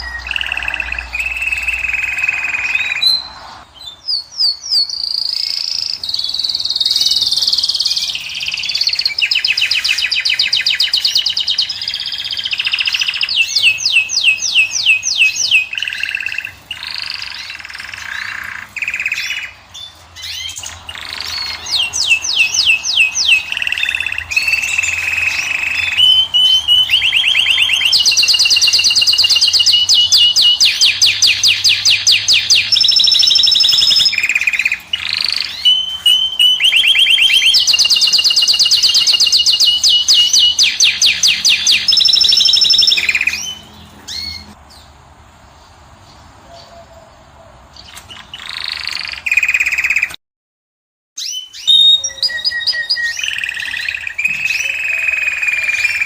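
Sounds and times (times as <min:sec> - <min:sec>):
finch singing trills: 0:00.0 - 0:44.9, 0:51.2 - 0:56.0.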